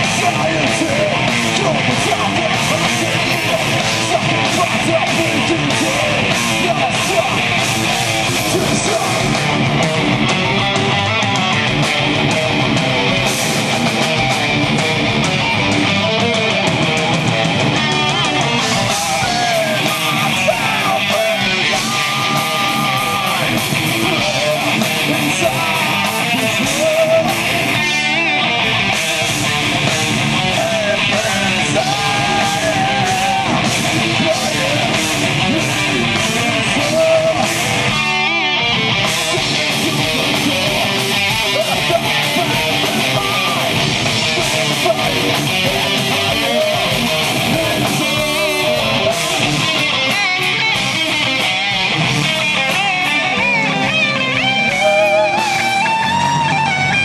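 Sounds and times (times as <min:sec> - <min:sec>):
bass guitar: 0:00.0 - 0:57.0
drums: 0:00.0 - 0:57.0
electric guitar: 0:00.0 - 0:57.0.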